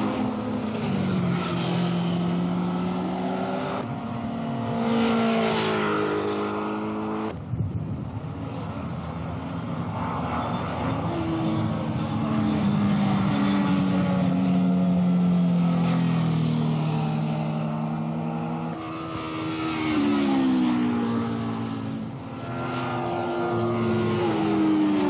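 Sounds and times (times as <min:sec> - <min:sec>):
racing motorcycle engines: 0:00.0 - 0:25.0.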